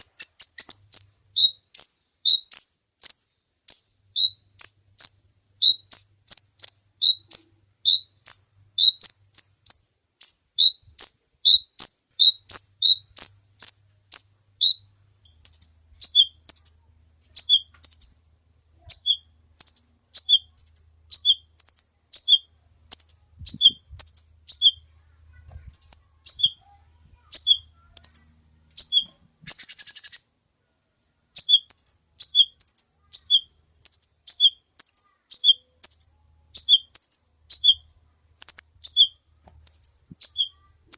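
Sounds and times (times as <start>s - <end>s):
high bird chirps: 0.0s - 40.9s.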